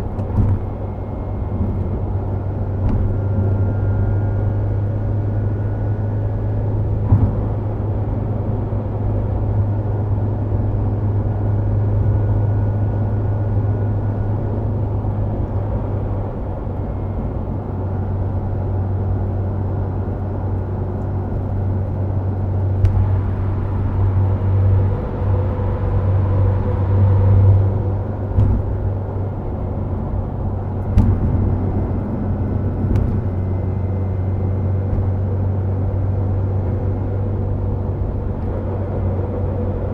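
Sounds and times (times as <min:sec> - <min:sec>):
tyre and road noise: 0:00.0 - 0:12.2, 0:19.8 - 0:39.9
car engine drone: 0:00.0 - 0:39.9.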